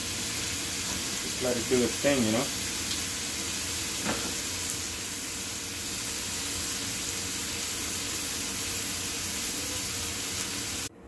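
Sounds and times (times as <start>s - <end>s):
fish sizzling in a frying pan: 0.0s - 10.9s.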